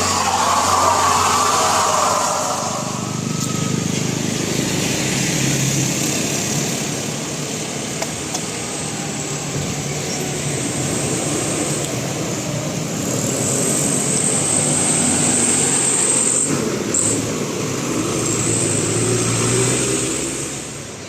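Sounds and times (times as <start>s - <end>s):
passing traffic engine and tyre noise: 0.0s - 21.0s.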